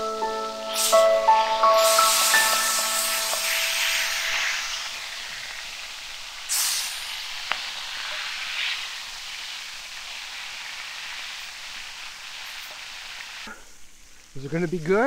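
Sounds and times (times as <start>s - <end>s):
bacon sizzling in a pan: 0.1s - 15.0s.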